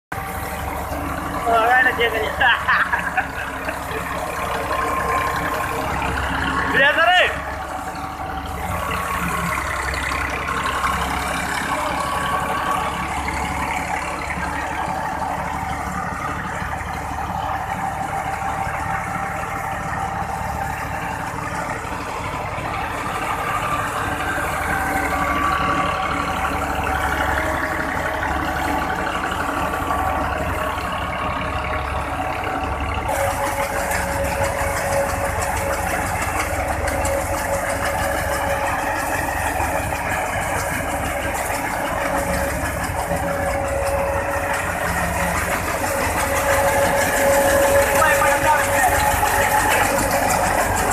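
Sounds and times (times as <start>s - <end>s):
tractor engine running: 0.0s - 50.9s
wheat thresher running: 0.1s - 50.9s.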